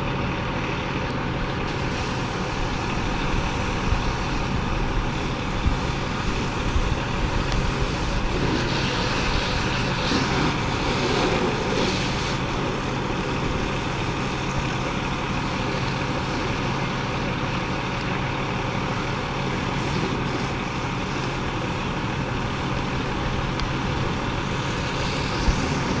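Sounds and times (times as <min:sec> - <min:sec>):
fire engine motor humming: 0:00.0 - 0:26.0
street noise: 0:00.0 - 0:26.0.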